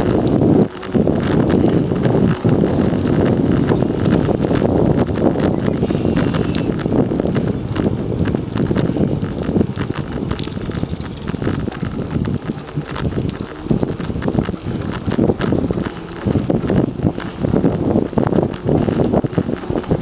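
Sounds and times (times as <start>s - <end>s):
bicycle clicks and rattles: 0.0s - 20.0s
bicycle rumble: 0.0s - 20.0s
wind buffeting microphone: 0.0s - 20.0s.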